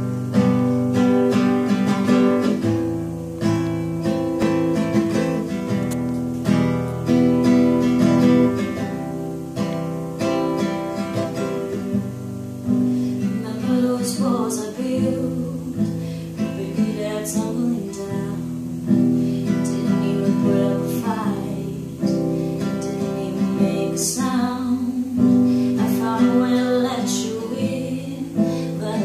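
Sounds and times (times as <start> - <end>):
classical guitar strummed chords: 0.0 - 29.0.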